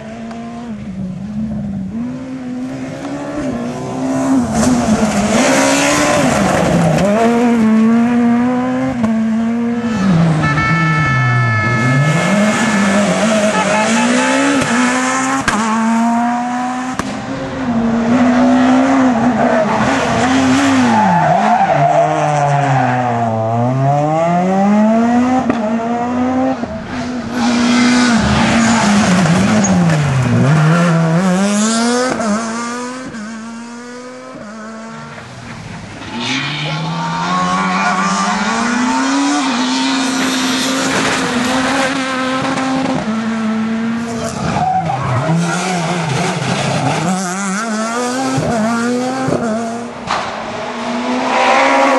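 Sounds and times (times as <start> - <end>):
rally car engines at full throttle: 0.0 - 51.9.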